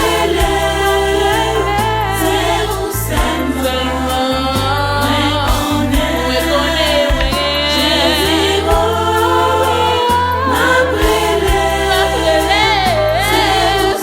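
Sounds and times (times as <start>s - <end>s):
choir singing with vibrato: 0.0s - 14.0s
held bass notes: 0.0s - 14.0s.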